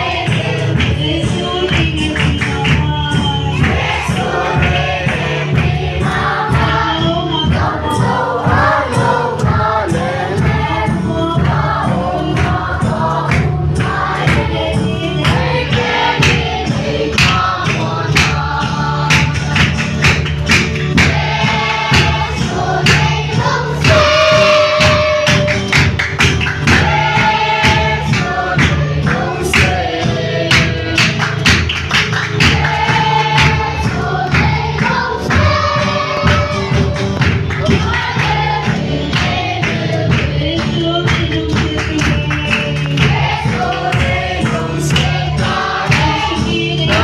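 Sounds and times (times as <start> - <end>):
crowd singing gospel song: 0.0 - 47.0
instrumental accompaniment: 0.0 - 47.0
steady percussion beat: 0.0 - 47.0.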